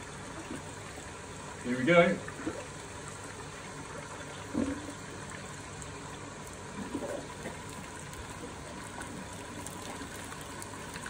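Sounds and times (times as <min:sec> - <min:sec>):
liquid trickling and splashing: 0:00.0 - 0:11.0.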